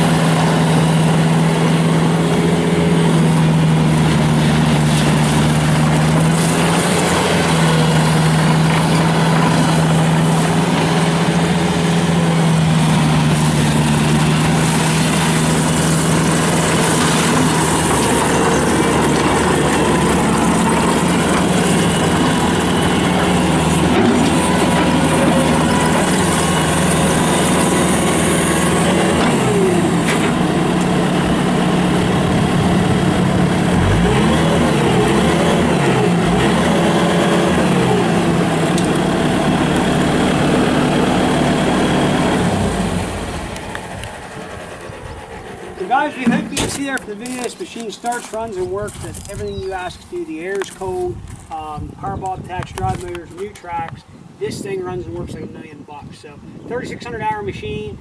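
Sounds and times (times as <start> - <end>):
diesel engine running: 0.0 - 54.1.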